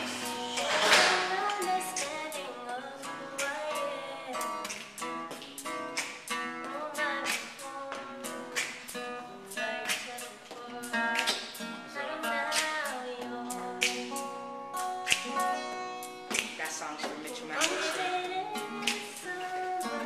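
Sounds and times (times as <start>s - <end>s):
acoustic guitar strumming: 0.0s - 20.0s
person singing: 0.0s - 20.0s.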